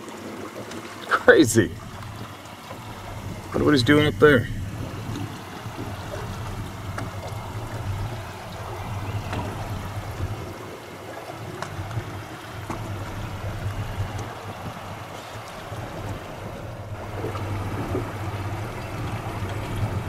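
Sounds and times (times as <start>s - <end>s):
boat motor humming: 0.0s - 20.0s
water splashing along hull: 0.0s - 20.0s.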